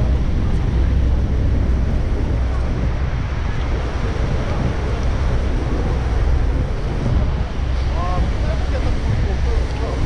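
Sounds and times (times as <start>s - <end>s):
rushing water: 0.0s - 10.0s
wind buffeting microphone: 0.0s - 10.0s
wind roaring: 0.0s - 10.0s.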